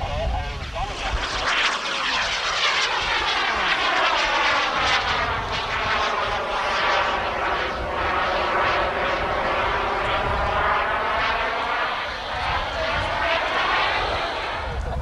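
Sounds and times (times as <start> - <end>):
jet engine whining: 0.0 - 15.0.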